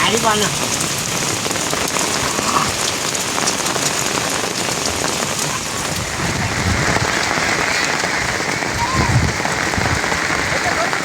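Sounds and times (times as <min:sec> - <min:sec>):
raindrops ticking close by: 0:00.0 - 0:11.0
steady rain falling: 0:00.0 - 0:11.0.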